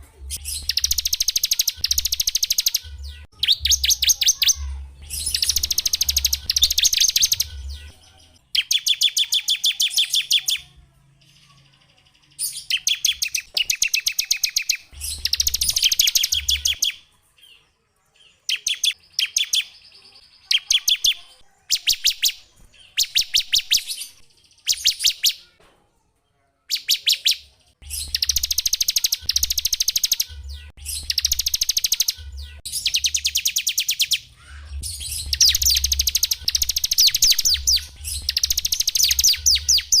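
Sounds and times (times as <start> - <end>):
songbirds trilling: 0.3 - 10.8, 11.4 - 25.6, 26.7 - 40.0.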